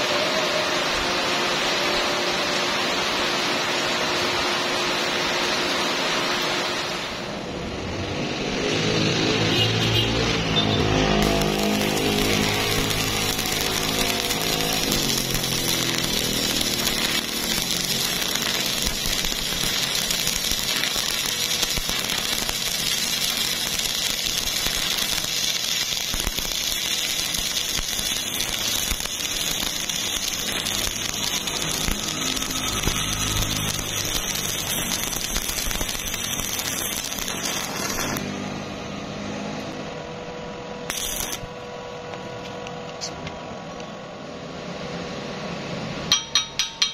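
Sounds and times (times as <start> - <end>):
welding arc crackling and sizzling: 0.0 - 43.1.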